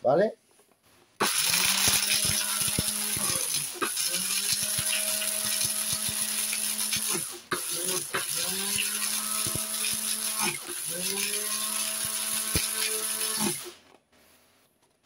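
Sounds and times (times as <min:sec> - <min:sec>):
blender motor whining: 0:01.2 - 0:13.8.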